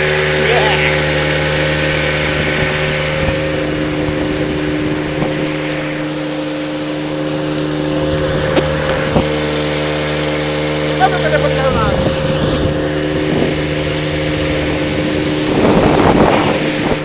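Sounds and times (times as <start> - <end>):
motorboat engine running: 0.0 - 17.0
rush of noise: 0.0 - 17.0.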